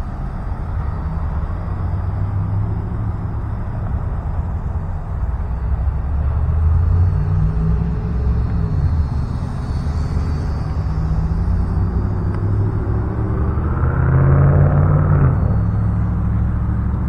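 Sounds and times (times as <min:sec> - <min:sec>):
rc airplane motor buzzing: 0:00.0 - 0:17.0
steady low rumble: 0:00.0 - 0:17.0.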